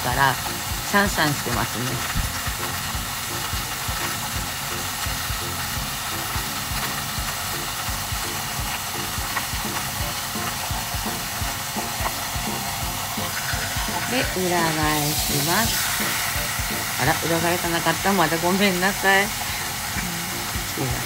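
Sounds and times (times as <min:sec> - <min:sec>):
chicken sizzling in a pot: 0:00.0 - 0:21.0.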